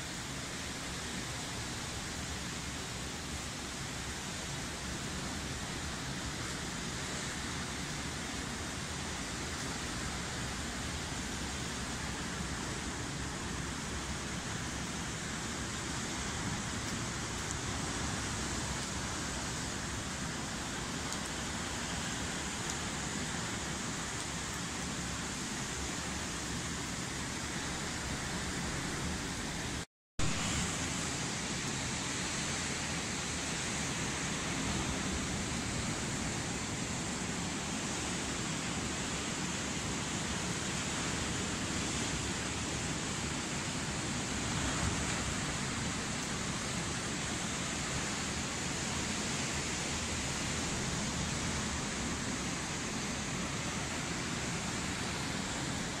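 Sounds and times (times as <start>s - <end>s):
storm wind: 0.1s - 56.0s.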